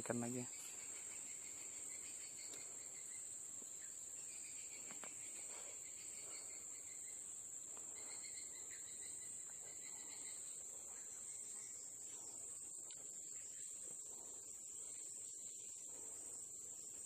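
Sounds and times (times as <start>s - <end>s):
faint pulsing chirp: 0.0s - 17.0s
insects chirring: 0.0s - 17.0s.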